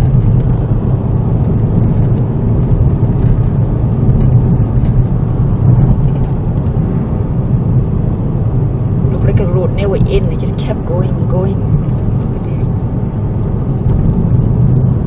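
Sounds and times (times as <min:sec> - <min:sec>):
car interior road drone: 0:00.0 - 0:15.0.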